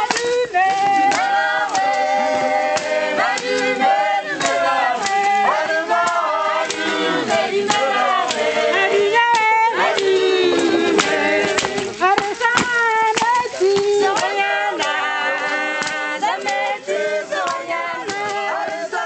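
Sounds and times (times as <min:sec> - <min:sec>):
choir singing in harmony: 0:00.0 - 0:12.1, 0:13.9 - 0:19.0.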